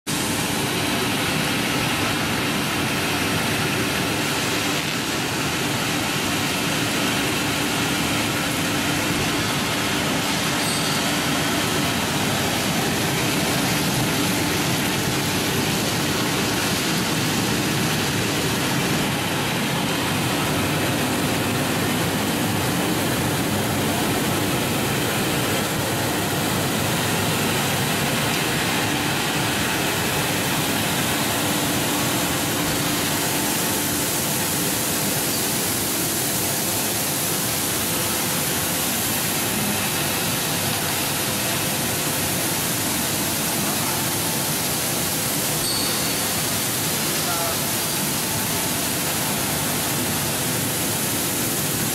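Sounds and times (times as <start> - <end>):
spray nozzles showering water: 0.1 - 51.9.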